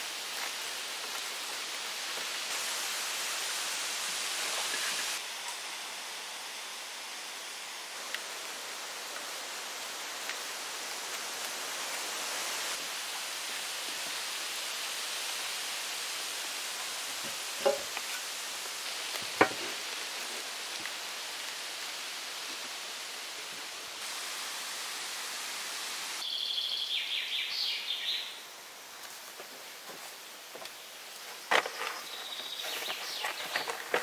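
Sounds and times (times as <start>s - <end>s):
steady outdoor hiss: 0.0s - 34.0s.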